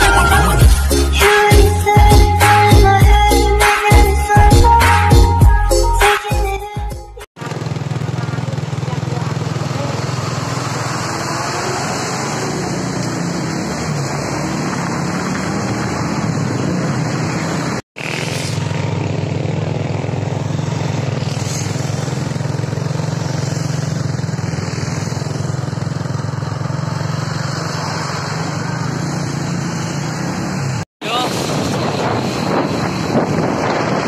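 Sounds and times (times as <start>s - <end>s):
road traffic and engines: 0.0s - 6.0s, 7.3s - 34.0s.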